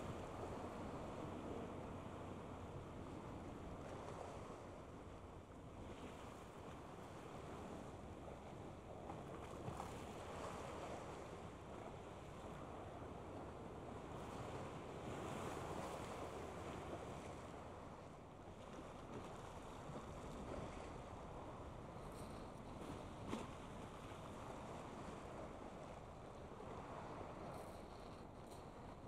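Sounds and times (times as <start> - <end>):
wind: 0.0 - 29.0.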